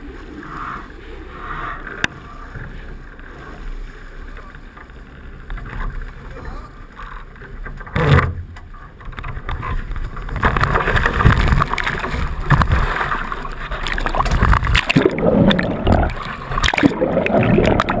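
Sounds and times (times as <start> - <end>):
water rushing along hulls: 0.0 - 18.0.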